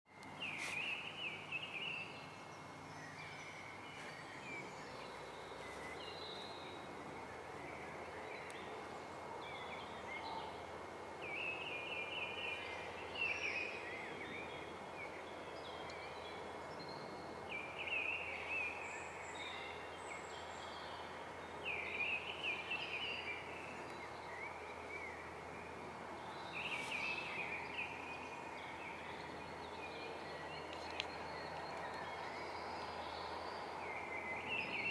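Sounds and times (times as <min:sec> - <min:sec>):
outdoor background hiss: 0:00.1 - 0:34.9
songbirds chirping: 0:00.1 - 0:34.9.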